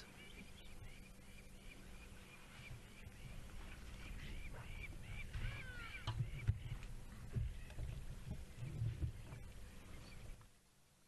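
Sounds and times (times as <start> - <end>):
birds calling: 0.0 - 10.5.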